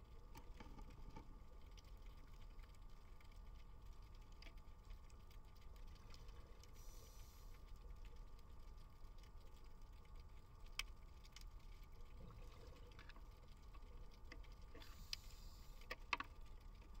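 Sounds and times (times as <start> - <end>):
faint steady hum: 0.0 - 17.0
low underwater rumble: 0.0 - 17.0.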